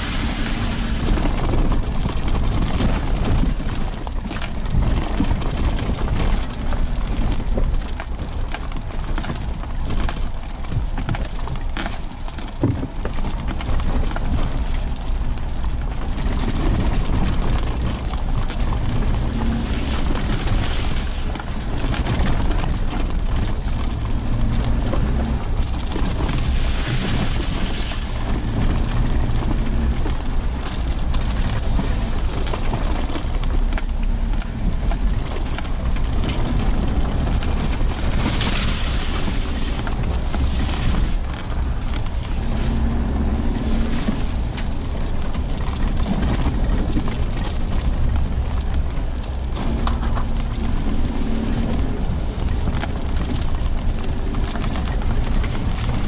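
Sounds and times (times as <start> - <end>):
car engine and tyre rumble: 0.0 - 56.0
knocks and rattles: 1.0 - 56.0.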